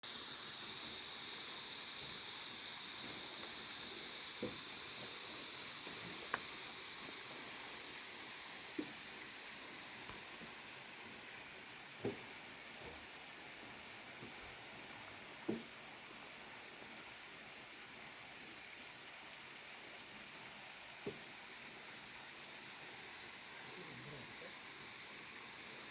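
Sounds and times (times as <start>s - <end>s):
high-pitched outdoor hiss: 0.0s - 25.9s.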